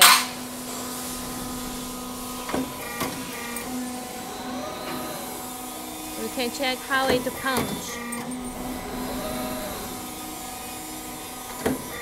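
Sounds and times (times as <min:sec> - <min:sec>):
loud burst of noise: 0:00.0 - 0:12.0
roll forming machine humming: 0:00.0 - 0:12.0.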